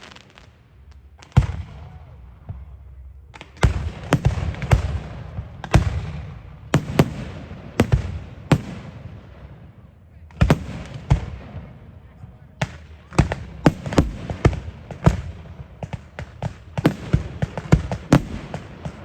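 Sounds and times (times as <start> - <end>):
fireworks bangs: 0.0 - 19.0
low rumbling echo: 0.0 - 19.0.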